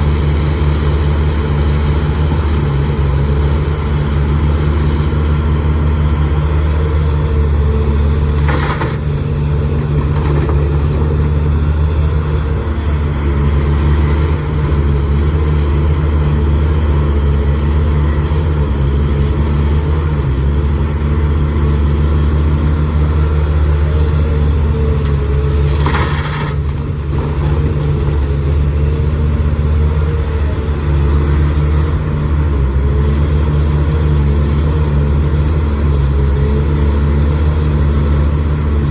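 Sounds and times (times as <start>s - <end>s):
excavator engine droning: 0.0s - 38.9s.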